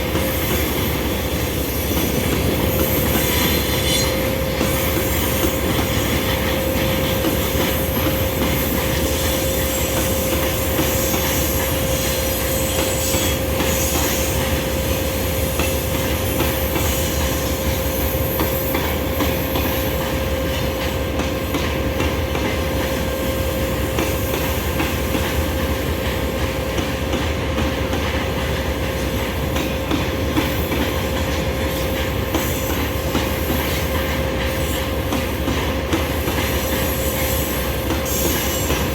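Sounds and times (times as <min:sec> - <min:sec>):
train wheels on track: 0:00.0 - 0:38.9.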